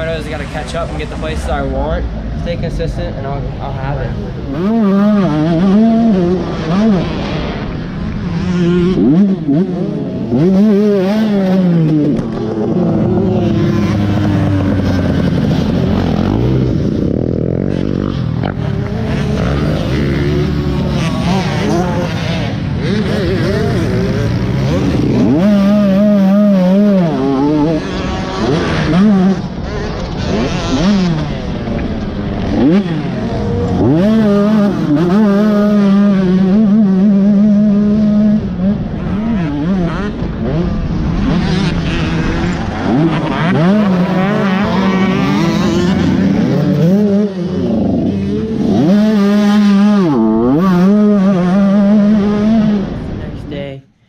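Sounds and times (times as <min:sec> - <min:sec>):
dirt bike engine revving: 0:00.0 - 0:53.8.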